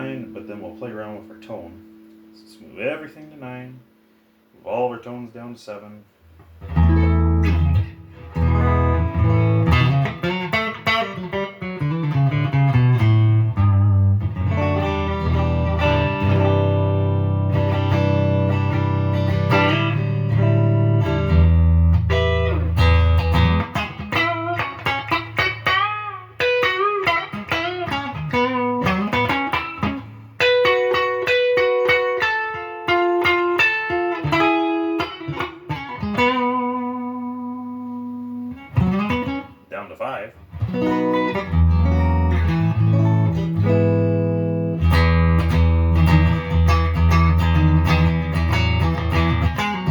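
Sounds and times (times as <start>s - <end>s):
electric guitar chords: 0.0s - 4.5s, 6.2s - 39.7s, 40.4s - 49.9s
electric guitar lead with bends: 6.6s - 39.7s, 40.4s - 49.9s.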